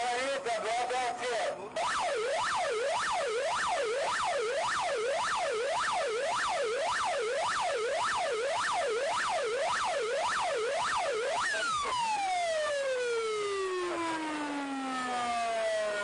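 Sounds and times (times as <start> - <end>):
siren wailing: 1.7 - 16.0.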